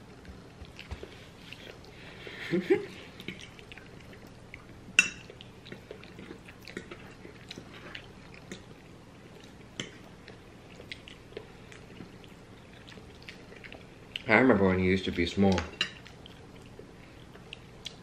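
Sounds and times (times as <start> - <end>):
people chewing: 0.0 - 14.4, 15.5 - 18.0.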